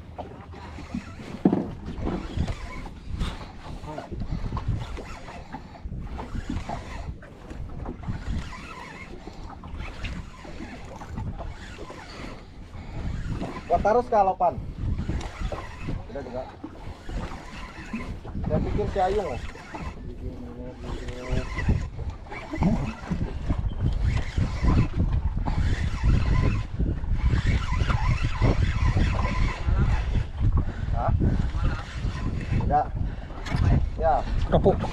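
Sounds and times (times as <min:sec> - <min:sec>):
water lapping against boat: 0:00.0 - 0:34.9
wind buffeting microphone: 0:00.0 - 0:34.9
spinning reel cranking: 0:02.0 - 0:32.8.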